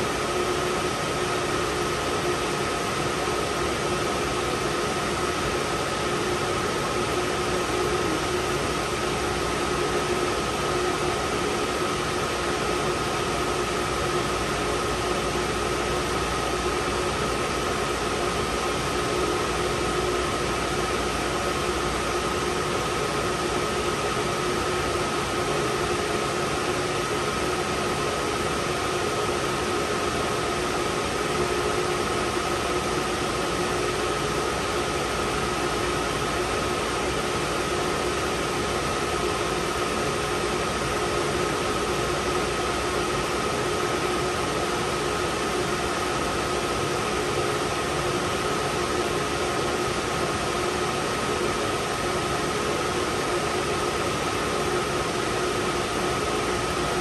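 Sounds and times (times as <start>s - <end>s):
cooling fans whirring: 0.0s - 57.0s
steady high hum: 0.0s - 57.0s.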